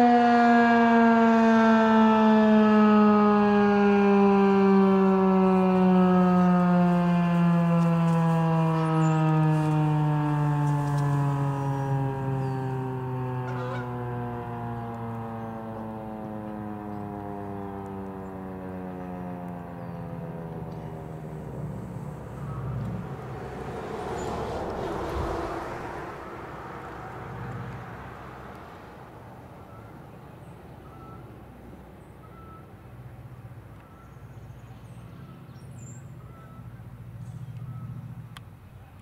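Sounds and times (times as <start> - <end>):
warning siren winding down: 0.0 - 31.6.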